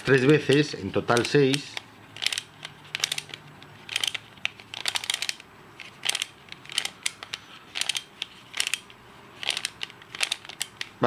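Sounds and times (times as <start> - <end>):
plastic puzzle clicking: 0.1 - 10.9.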